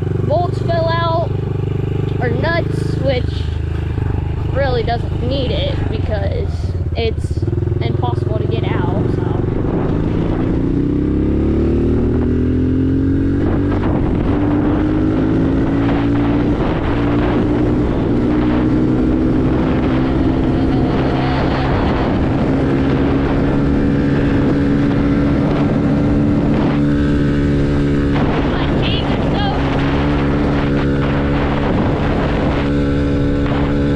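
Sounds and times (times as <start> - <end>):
dirt bike engine: 0.0 - 33.9.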